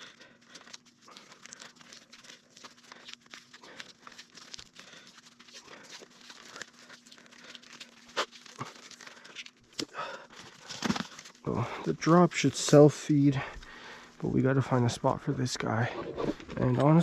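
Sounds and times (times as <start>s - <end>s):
crinkling and rustling: 0.0s - 17.0s
faint steady hum: 0.0s - 17.0s.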